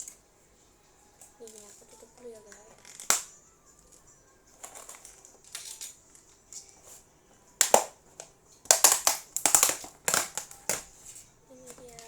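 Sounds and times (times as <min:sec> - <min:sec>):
plastic lid clicking and crackling: 0:01.2 - 0:12.0.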